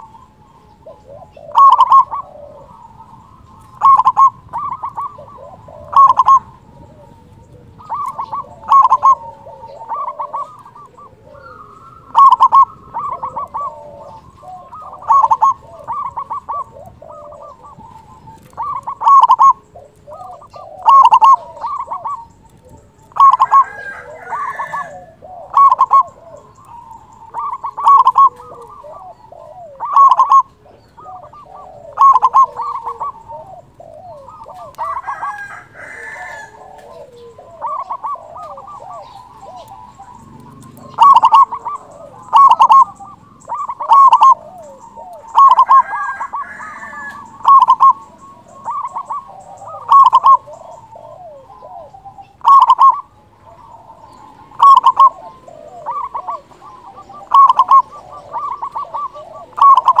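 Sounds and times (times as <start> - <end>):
dove cooing: 0.0 - 60.0.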